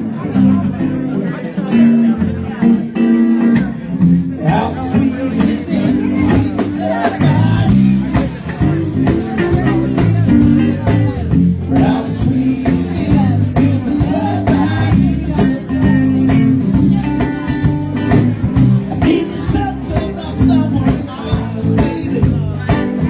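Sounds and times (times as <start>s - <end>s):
bass guitar: 0.0s - 23.0s
guitar: 0.0s - 23.0s
steady drum beat: 2.6s - 23.0s.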